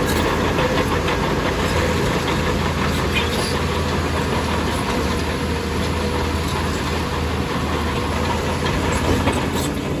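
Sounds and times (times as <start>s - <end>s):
diesel machinery engine drone: 0.0s - 10.0s.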